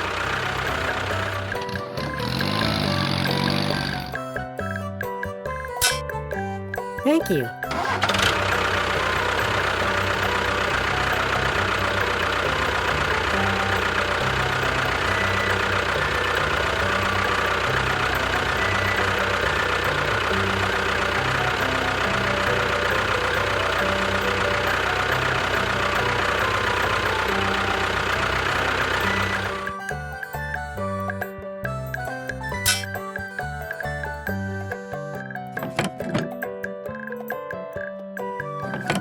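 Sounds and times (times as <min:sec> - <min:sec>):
engine running steadily: 0:00.0 - 0:04.2, 0:07.3 - 0:34.7.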